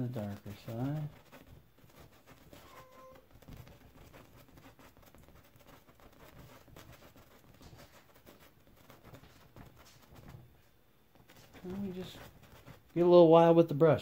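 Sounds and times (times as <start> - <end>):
brush scratching on canvas: 0.0 - 13.4.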